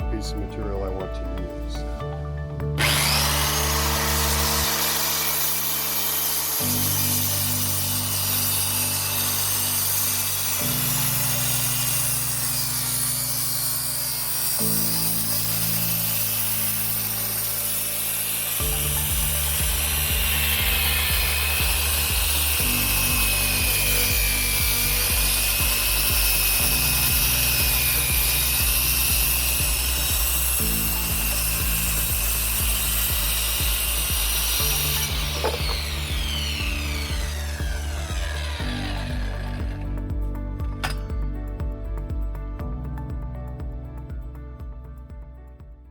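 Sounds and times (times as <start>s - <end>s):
background music with beat: 0.0s - 45.9s
circular saw cutting wood: 2.8s - 41.1s.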